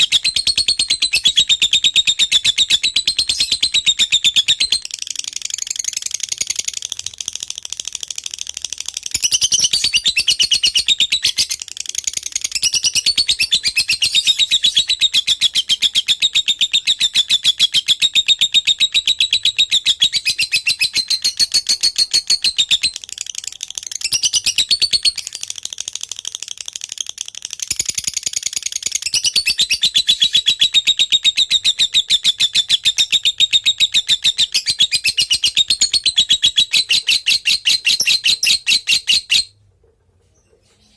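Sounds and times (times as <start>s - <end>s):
lovebird chirping rapidly: 0.0s - 39.6s.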